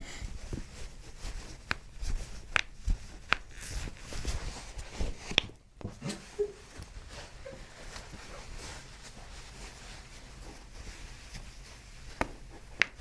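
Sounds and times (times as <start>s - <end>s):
rustling from handling: 0.2s - 13.0s.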